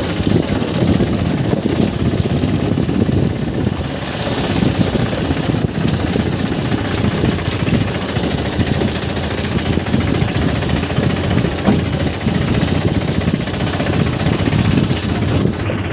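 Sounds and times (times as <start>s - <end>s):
vehicle engine on dirt road: 0.0s - 15.9s.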